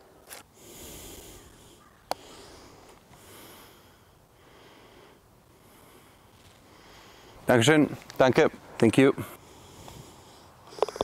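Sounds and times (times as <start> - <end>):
faint breathy hiss: 0.0 - 8.0, 8.6 - 11.0.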